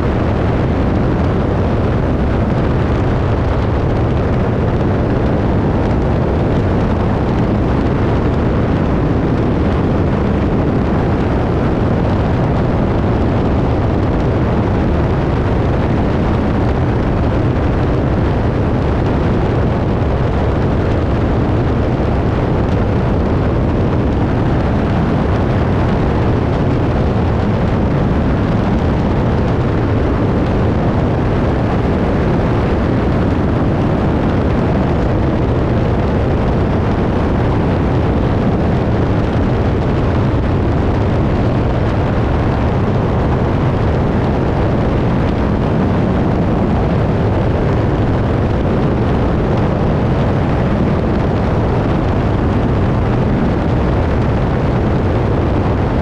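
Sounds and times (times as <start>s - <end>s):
biplane engine and propeller: 0.0s - 56.0s
wind rushing: 0.0s - 56.0s.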